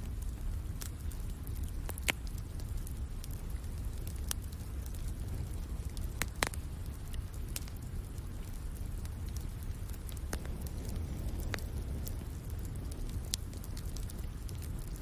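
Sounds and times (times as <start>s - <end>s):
sharp pops of fire: 0.0s - 15.0s
steady low rumble: 0.0s - 15.0s
wood fire crackling: 0.0s - 15.0s.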